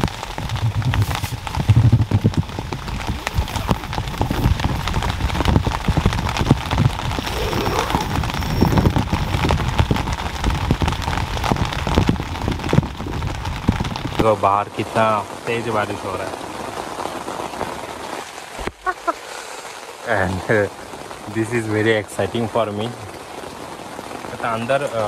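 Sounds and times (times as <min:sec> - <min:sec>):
heavy rain on tent: 0:00.0 - 0:25.0.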